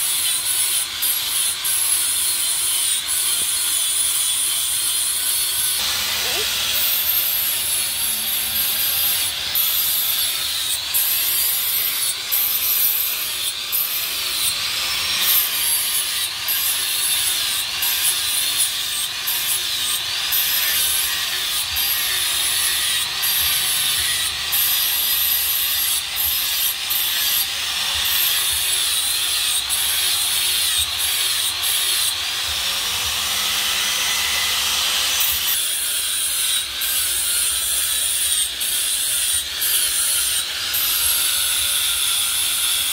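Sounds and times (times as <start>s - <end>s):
angle grinder grinding steel: 0.0s - 42.9s.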